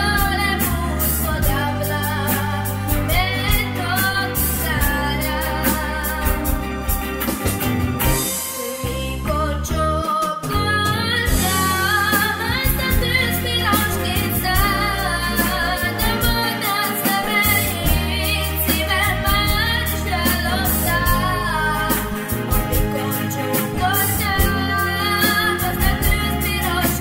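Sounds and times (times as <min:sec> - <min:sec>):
girl singing pop song: 0:00.0 - 0:07.4, 0:08.0 - 0:27.0
backing track with bass and beat: 0:00.0 - 0:27.0.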